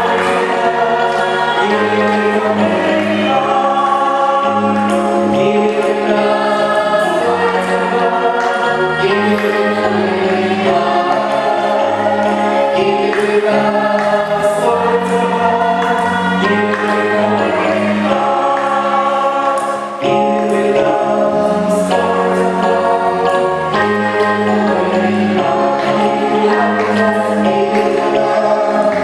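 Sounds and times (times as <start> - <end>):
congregation singing: 0.0 - 29.0.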